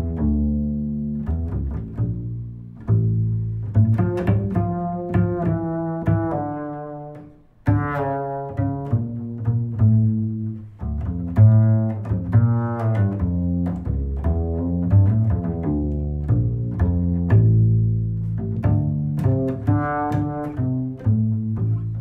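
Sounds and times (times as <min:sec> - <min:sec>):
instrumental music with deep strings: 0:00.0 - 0:22.0.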